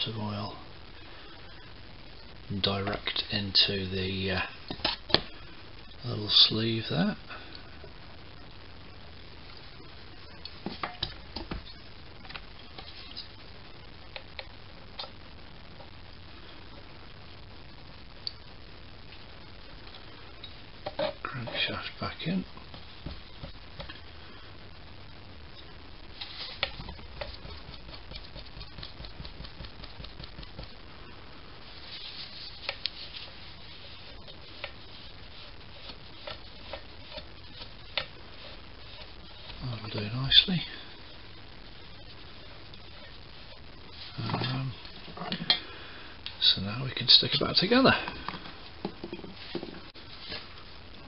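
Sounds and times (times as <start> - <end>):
steady hiss: 0.0 - 51.0.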